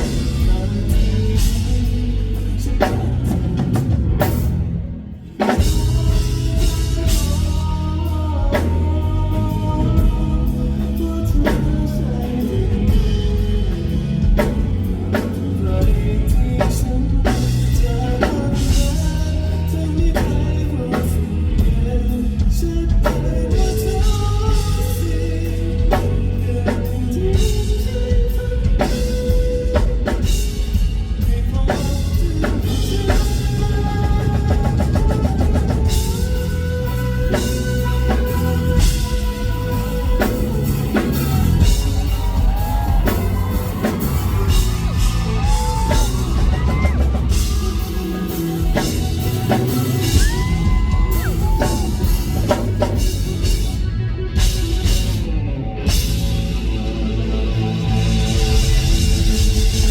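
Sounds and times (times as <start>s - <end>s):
drum kit beat: 0.0s - 57.0s, 57.7s - 59.9s
live band playing pop-rock: 0.0s - 59.9s.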